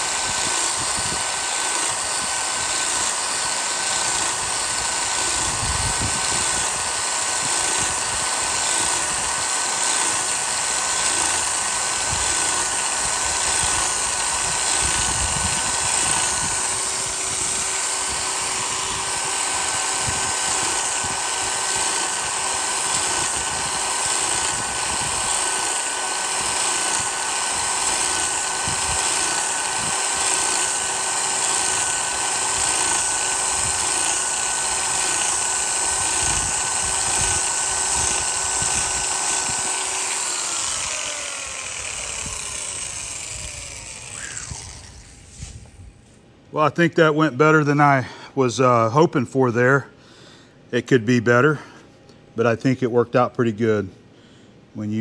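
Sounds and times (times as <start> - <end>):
power scraper blade strokes: 0.0 - 45.8
steady high whine: 0.0 - 50.0.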